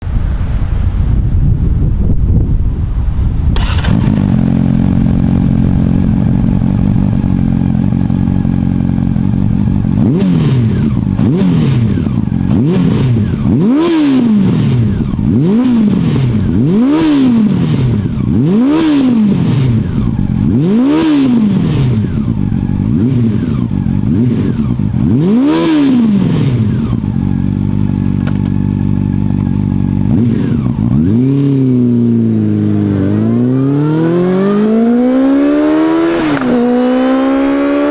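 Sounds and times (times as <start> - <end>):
motorcycle engine revving: 3.6 - 37.9.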